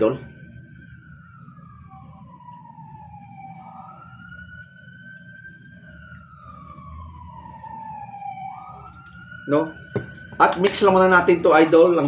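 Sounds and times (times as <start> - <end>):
faint siren wailing: 0.0 - 12.0.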